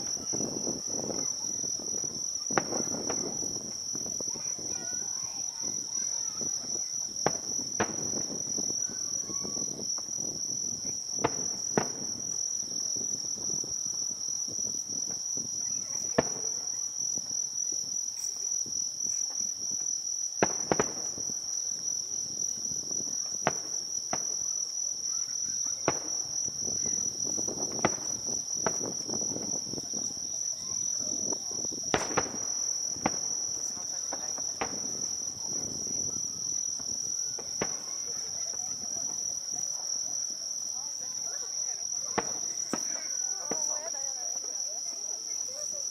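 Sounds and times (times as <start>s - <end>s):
fireworks bangs: 0.0s - 17.3s, 18.1s - 45.4s
crickets chirring: 0.0s - 45.9s.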